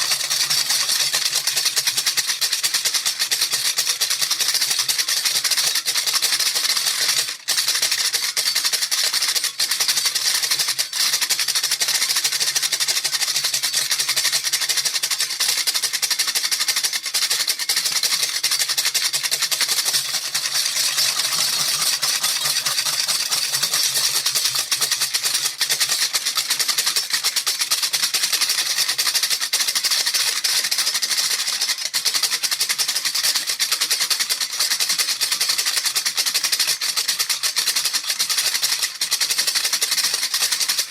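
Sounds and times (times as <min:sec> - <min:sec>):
baby rattle shaken: 0:00.0 - 0:40.9.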